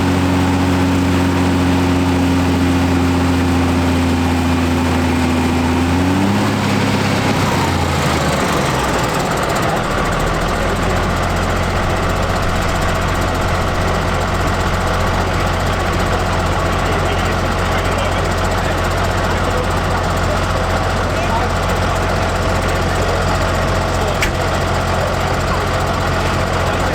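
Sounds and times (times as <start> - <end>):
tractor engine settling to idle: 0.0 - 26.9.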